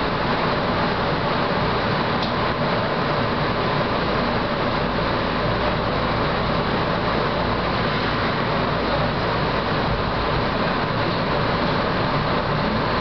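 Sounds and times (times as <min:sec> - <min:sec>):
electric train equipment humming: 0:00.0 - 0:13.0.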